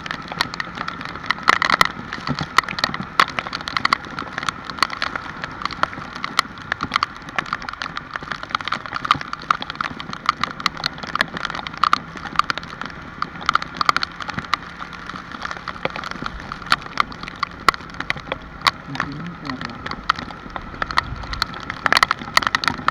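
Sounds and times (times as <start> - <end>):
large raindrops tapping close: 0.0 - 22.9
rain falling: 0.0 - 22.9.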